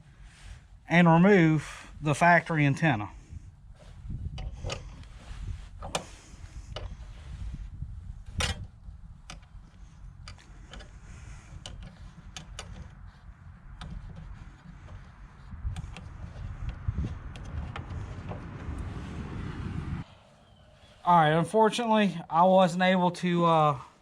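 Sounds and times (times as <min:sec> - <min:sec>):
low handling rumble: 0:00.0 - 0:22.0.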